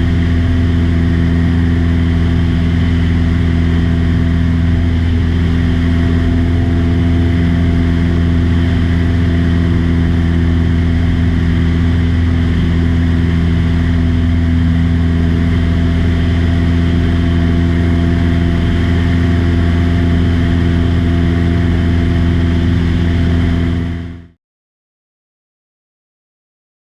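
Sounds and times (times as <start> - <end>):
aircraft engine and propeller droning: 0.0 - 24.3.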